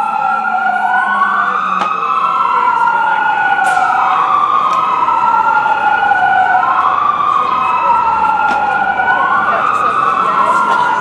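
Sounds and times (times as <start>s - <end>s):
fire engine siren wailing: 0.0s - 11.0s.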